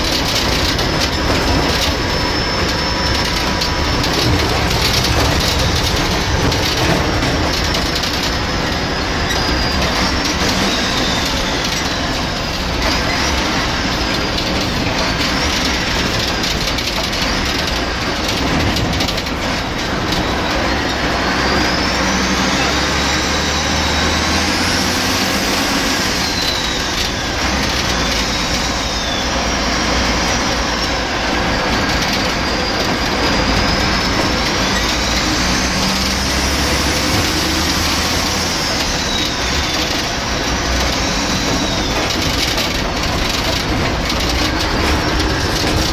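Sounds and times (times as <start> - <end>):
diesel engine running: 0.0 - 45.9
high engine whine: 0.0 - 45.9.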